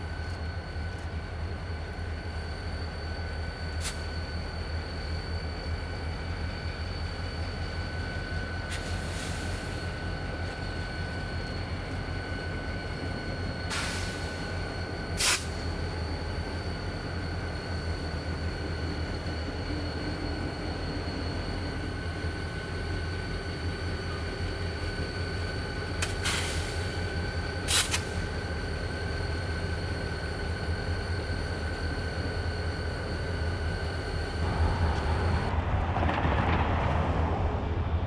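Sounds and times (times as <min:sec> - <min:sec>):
diesel locomotive engine under load: 0:00.0 - 0:38.0.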